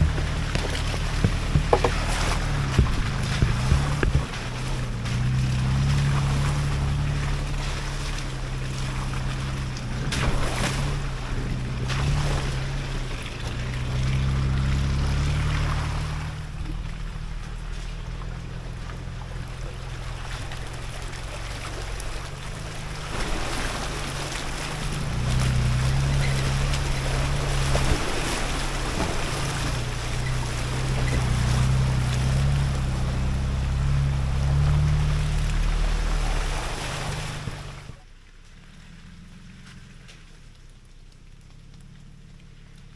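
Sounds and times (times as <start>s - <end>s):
suv engine at low revs: 0.0s - 42.9s
tyre and ground noise: 0.0s - 42.9s.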